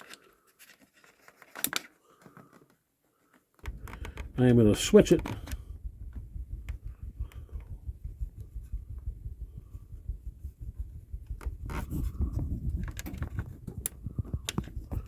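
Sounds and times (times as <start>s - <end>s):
rubbing and handling noise: 0.0s - 15.0s.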